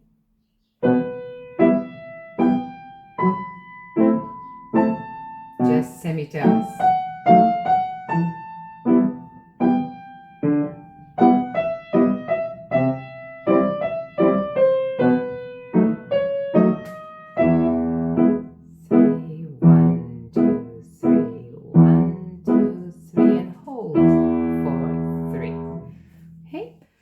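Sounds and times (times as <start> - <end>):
piano playing: 0.8 - 26.6.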